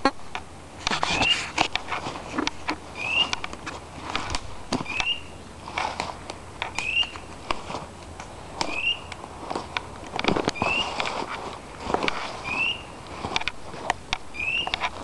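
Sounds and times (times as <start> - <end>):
footsteps in dry leaves: 0.8 - 15.0.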